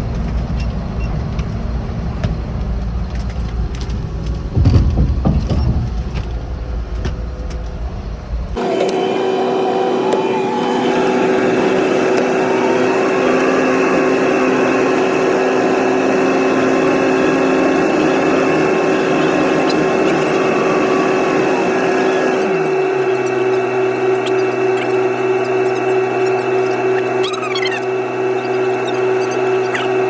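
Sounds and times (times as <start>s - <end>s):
vehicle engine whine and roar: 0.0s - 30.0s.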